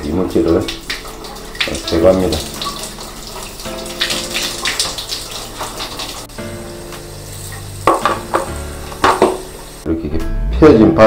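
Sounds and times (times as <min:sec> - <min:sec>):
water spraying from shower head: 0:00.0 - 0:09.8
background music: 0:00.0 - 0:11.0.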